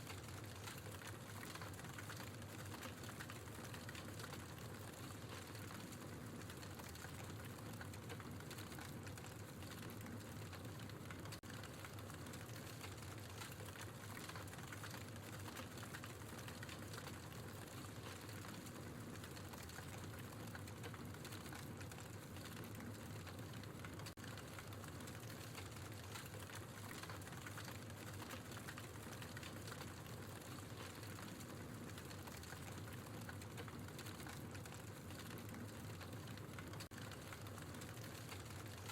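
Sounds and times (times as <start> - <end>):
logs crackling in fireplace: 0.0 - 38.9.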